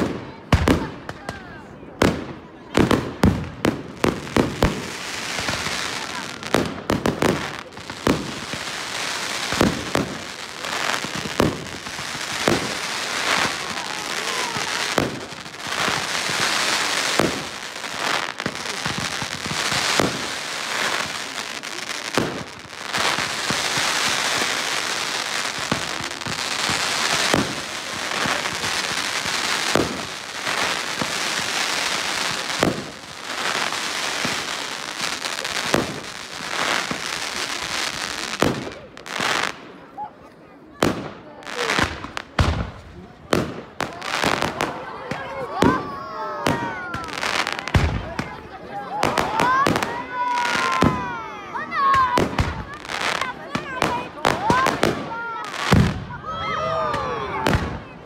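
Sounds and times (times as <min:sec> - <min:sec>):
firework hiss and crackle: 0:02.0 - 0:39.9, 0:40.8 - 0:57.9.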